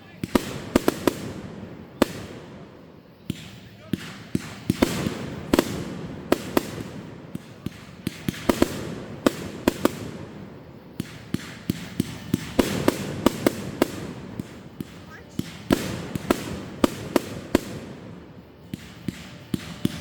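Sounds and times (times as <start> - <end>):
fireworks bangs and cracks: 0.0 - 20.0
low rumble of explosions: 0.0 - 20.0.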